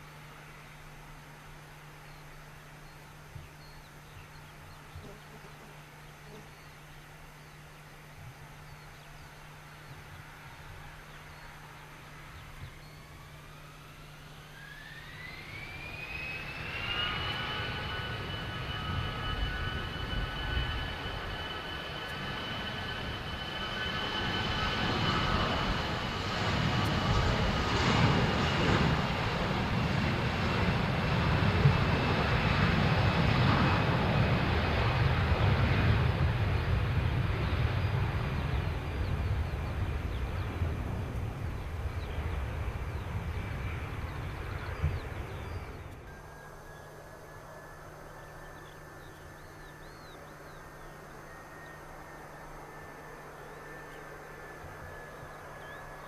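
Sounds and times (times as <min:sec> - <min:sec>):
jet airliner engines passing: 0:00.0 - 0:56.0.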